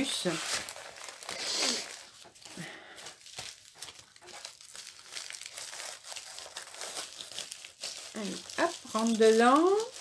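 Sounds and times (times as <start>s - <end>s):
canvas crinkling and rustling: 0.0s - 10.0s.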